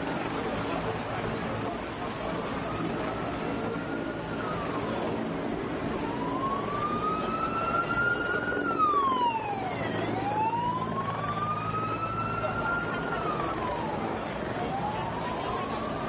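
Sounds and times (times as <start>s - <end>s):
street noise: 0.0s - 16.0s
siren wailing: 1.8s - 16.0s.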